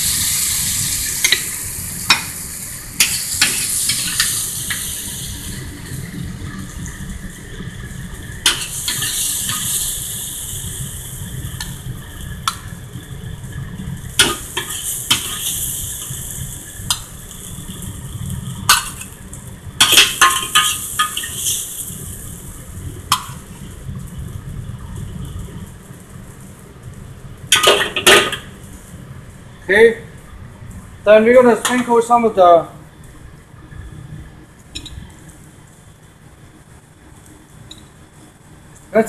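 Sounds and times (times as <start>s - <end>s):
stir fry sizzling: 0.0s - 39.0s.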